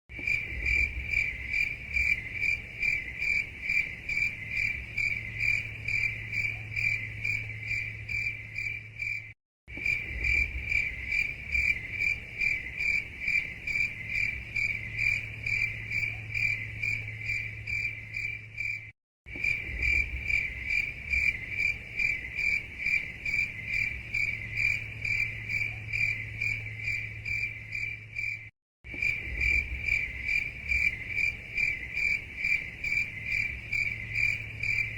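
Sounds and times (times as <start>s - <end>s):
crickets chirping: 0.1s - 34.9s.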